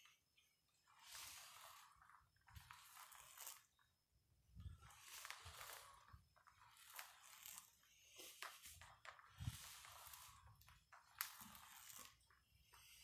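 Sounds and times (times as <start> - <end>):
wheel rolling on concrete: 0.0 - 13.0.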